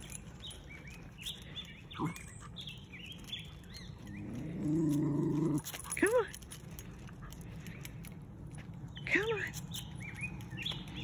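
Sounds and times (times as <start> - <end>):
wild birds chirping: 0.0 - 5.7, 6.7 - 11.0.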